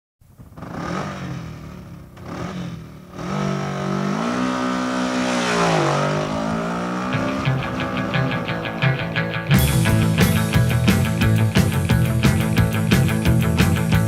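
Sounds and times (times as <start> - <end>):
motorcycle engine revving: 0.2 - 14.0.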